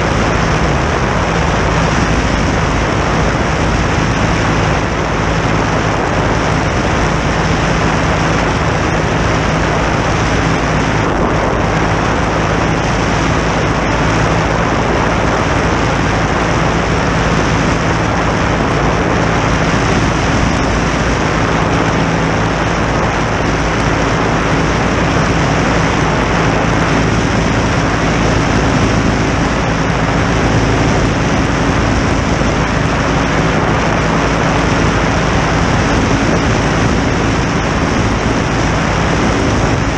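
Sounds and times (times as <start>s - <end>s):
light aircraft engine hum: 0.0s - 39.9s
rush of air: 0.0s - 39.9s.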